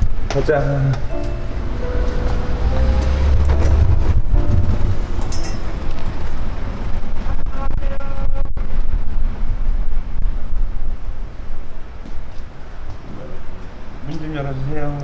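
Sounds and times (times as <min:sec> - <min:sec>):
street traffic noise: 0:00.0 - 0:07.5, 0:08.7 - 0:15.0
wind rumbling on microphone: 0:00.0 - 0:14.4.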